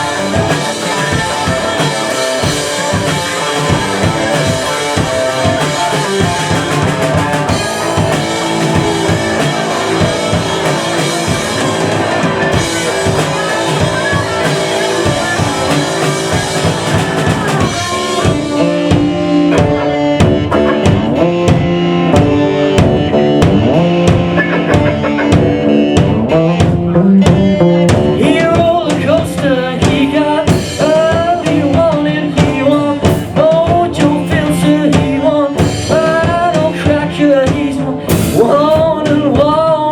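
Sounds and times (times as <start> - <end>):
drum hits: 0.0 - 39.5
live rock band playing: 0.0 - 39.9.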